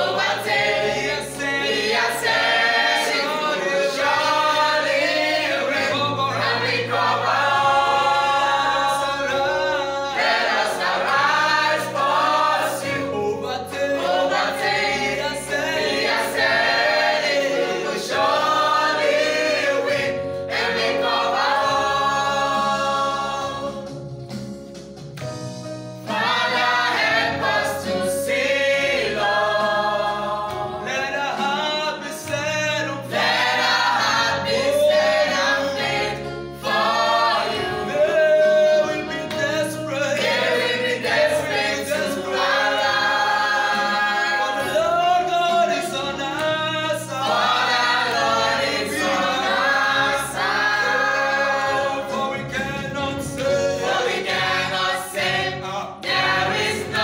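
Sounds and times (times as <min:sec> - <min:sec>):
choir singing gospel song: 0:00.0 - 0:57.0.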